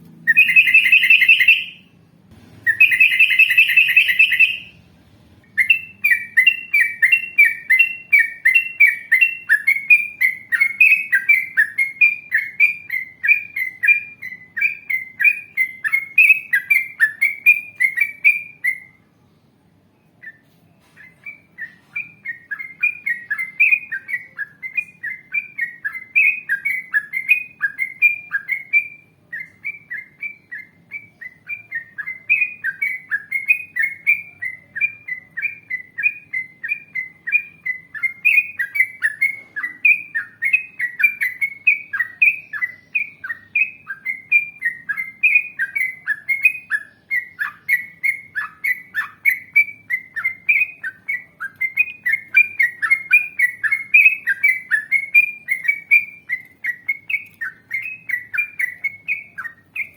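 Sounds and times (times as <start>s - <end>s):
bulbul song: 0.0s - 19.1s, 20.1s - 59.9s.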